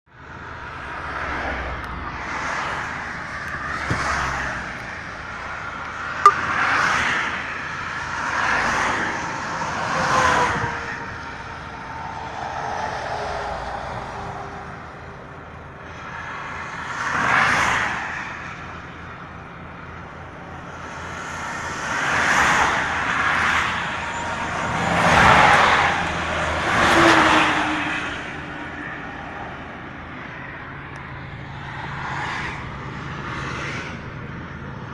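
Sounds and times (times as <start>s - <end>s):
vehicles passing: 0.1s - 34.9s.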